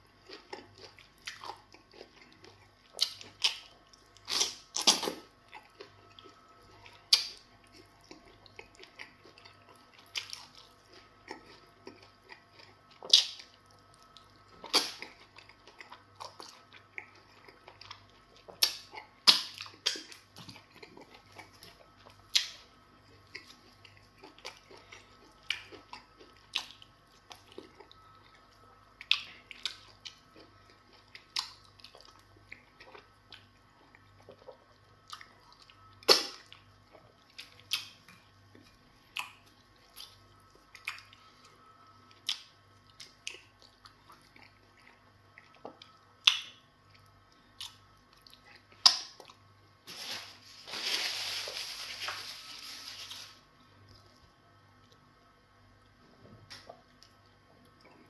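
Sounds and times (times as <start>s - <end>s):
person chewing: 0.1s - 28.1s, 28.9s - 49.4s.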